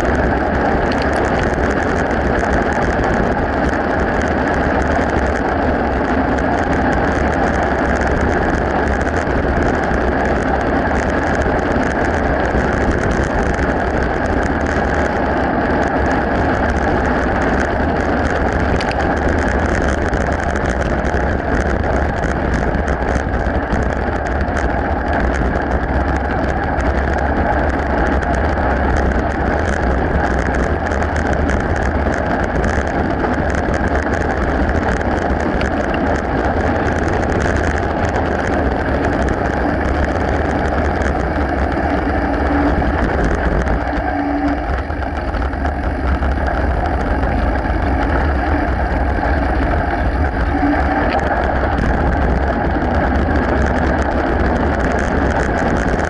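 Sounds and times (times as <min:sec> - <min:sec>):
bike tyres rolling over gravel: 0:00.0 - 0:56.0
gravel and bike rattling: 0:00.0 - 0:56.0
wind buffeting microphone: 0:00.0 - 0:56.0.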